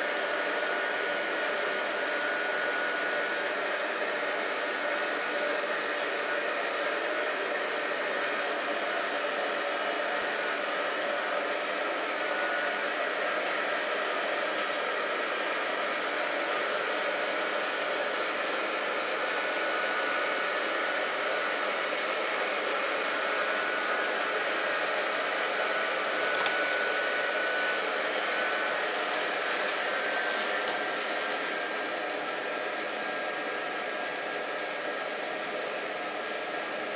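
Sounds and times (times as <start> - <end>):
electric blower fan whirring: 0.0 - 36.9.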